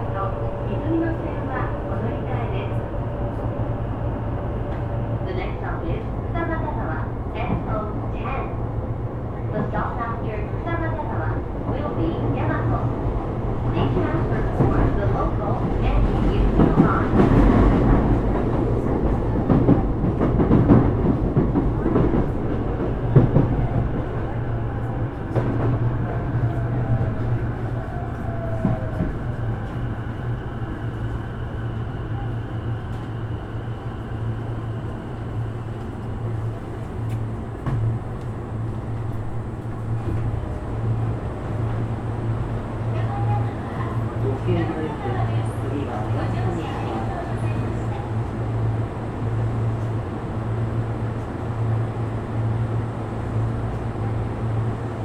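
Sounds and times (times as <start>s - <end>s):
electric train rolling noise: 0.0s - 55.0s.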